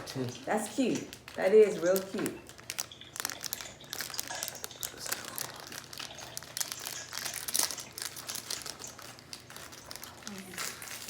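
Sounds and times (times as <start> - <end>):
plastic wrapper crinkling: 0.7 - 11.0.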